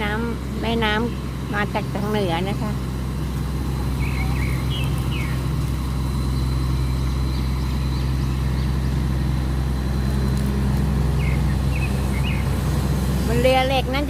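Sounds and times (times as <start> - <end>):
boat diesel engine droning: 0.0 - 14.0.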